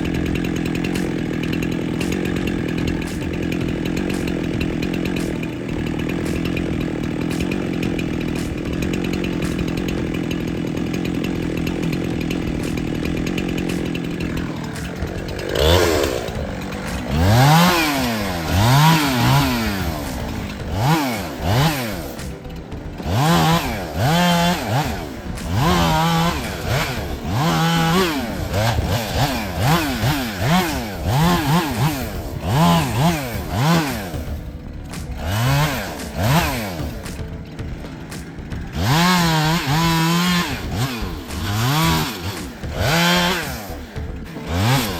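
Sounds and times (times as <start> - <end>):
chainsaw running and revving: 0.0 - 44.9.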